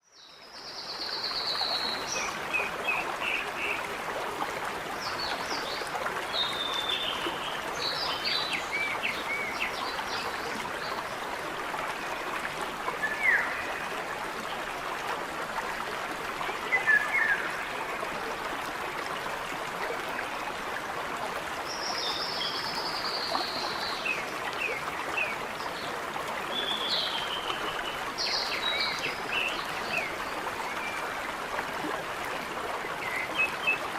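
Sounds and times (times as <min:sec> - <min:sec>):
stream babbling over rocks: 0:00.5 - 0:33.9.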